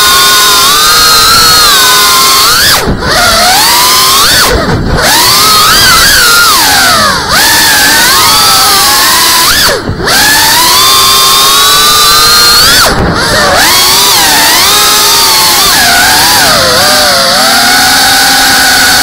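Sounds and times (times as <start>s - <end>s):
drone motors and propellers whining: 0.0s - 19.0s.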